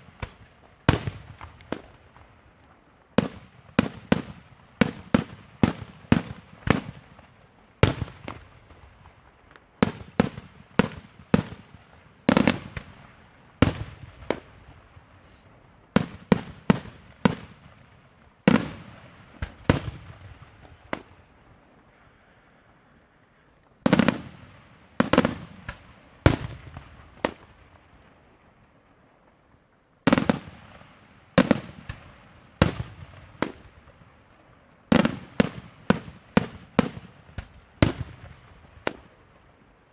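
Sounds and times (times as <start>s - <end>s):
fireworks explosions echoing: 0.0s - 39.9s.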